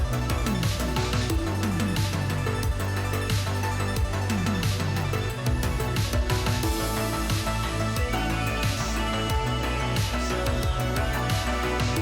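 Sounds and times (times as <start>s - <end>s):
electronic music with sliding bass: 0.0s - 12.0s.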